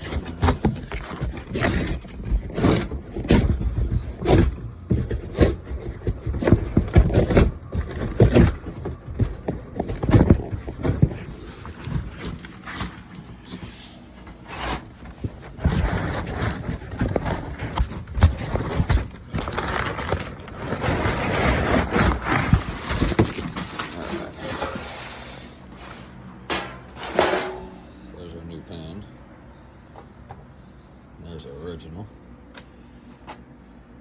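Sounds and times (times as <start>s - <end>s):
packaging and metal scraping: 0.0s - 27.9s.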